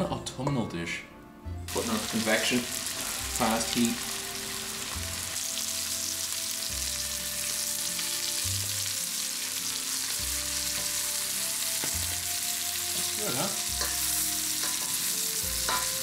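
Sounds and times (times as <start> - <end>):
chicken sizzling in a pan: 1.7 - 16.0.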